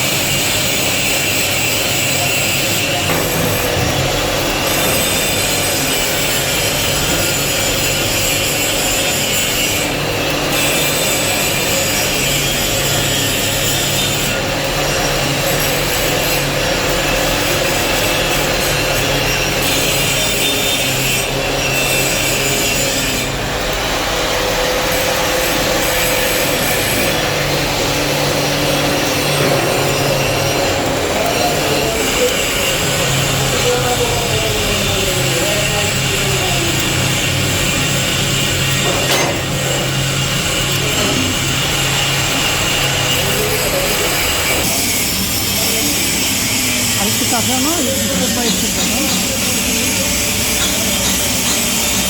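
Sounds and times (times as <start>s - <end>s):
angle grinder grinding steel: 0.0s - 52.0s.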